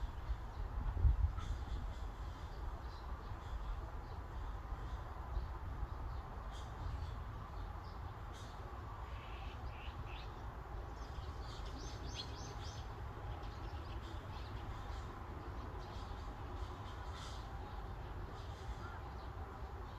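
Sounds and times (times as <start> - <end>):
steady breeze: 0.0 - 19.9.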